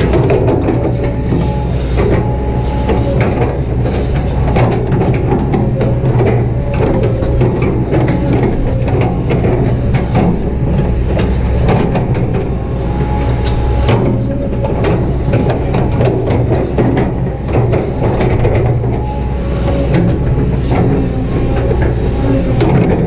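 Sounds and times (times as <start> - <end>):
excavator diesel engine running: 0.0 - 23.0
machine knocks and rattles: 0.0 - 23.0.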